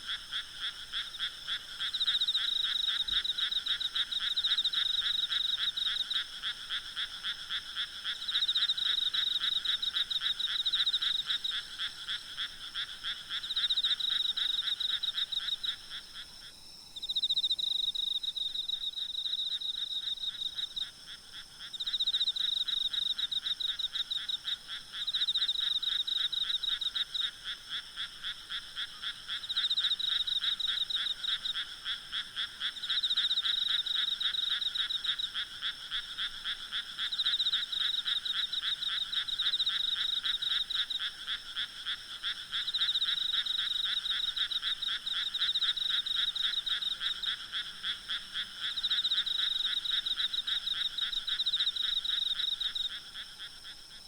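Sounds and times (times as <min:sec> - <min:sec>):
frogs calling in pulsing trills: 0:00.0 - 0:54.0.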